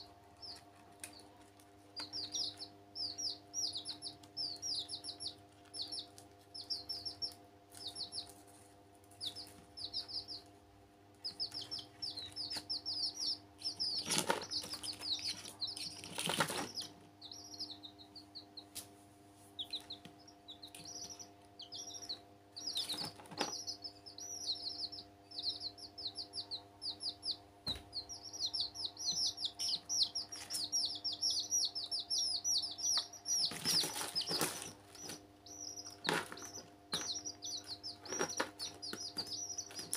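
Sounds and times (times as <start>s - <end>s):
baby chicks peeping: 0.0s - 39.9s
faint steady hum: 0.0s - 39.9s
chicks rustling in plastic tub: 0.3s - 10.5s, 11.2s - 18.0s, 18.7s - 39.9s.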